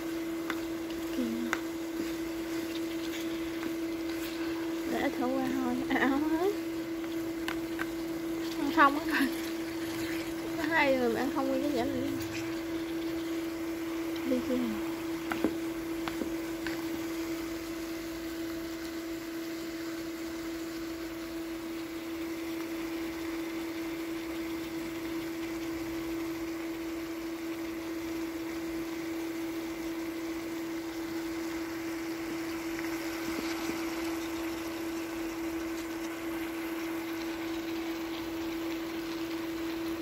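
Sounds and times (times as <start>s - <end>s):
cooktop electrical hum: 0.0s - 40.0s
stir-fry sizzling in a pan: 0.0s - 40.0s.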